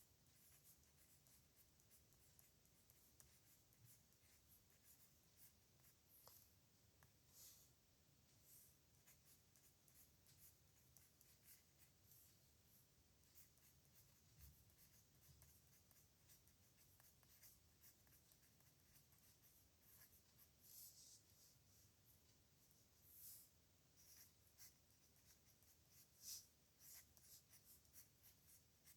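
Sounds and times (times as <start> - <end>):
pen nib scratching on paper: 0.0 - 6.5, 9.0 - 12.3, 13.2 - 21.2, 23.0 - 28.9.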